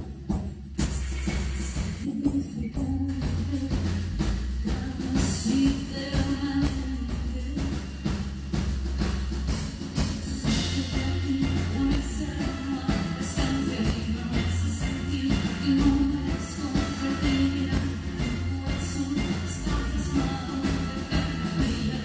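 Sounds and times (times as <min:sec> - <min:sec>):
drum kit: 0:00.0 - 0:22.0
heavy low bass: 0:00.0 - 0:22.0
woman singing: 0:01.9 - 0:08.2, 0:10.1 - 0:22.0.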